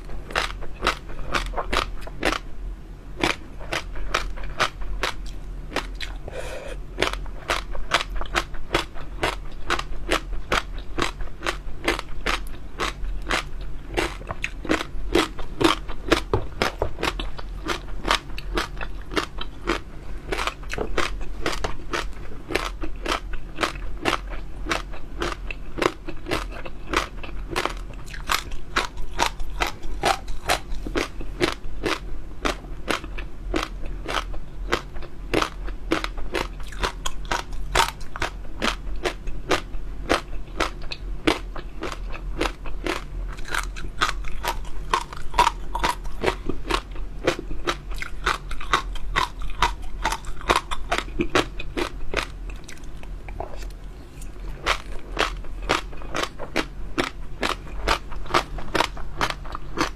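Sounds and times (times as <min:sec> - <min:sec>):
chewing crunchy jelly pearls: 0:00.0 - 0:02.6, 0:03.2 - 0:59.9.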